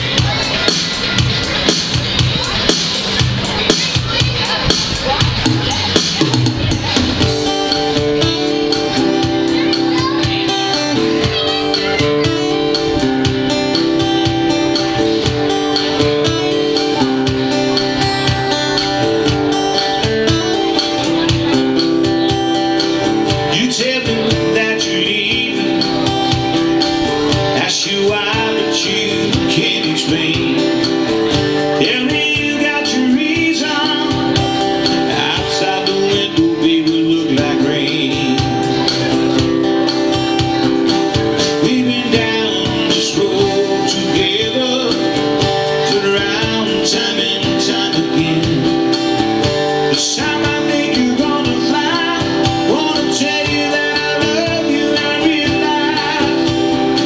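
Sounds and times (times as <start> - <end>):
acoustic guitar strumming: 0.0 - 57.0
man singing: 2.4 - 57.0.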